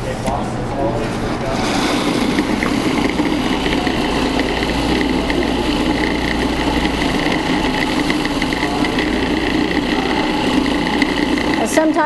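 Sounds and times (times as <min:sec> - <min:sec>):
food processor motor humming: 0:01.8 - 0:12.0.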